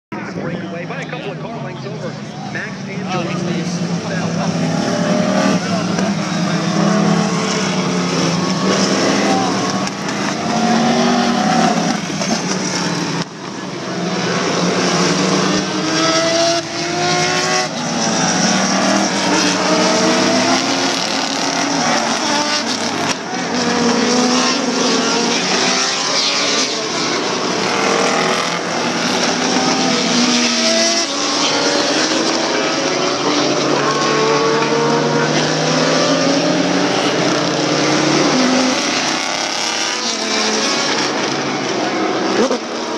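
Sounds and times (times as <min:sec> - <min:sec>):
race car engines accelerating by: 0:00.2 - 0:42.9.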